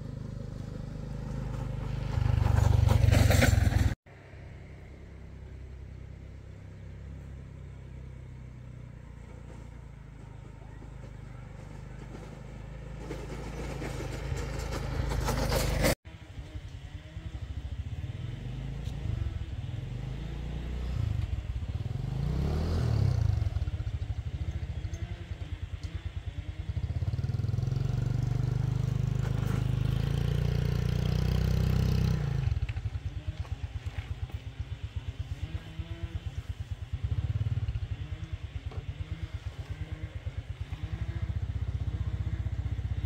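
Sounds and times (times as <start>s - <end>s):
small motorcycle engine revving: 0.0s - 43.0s.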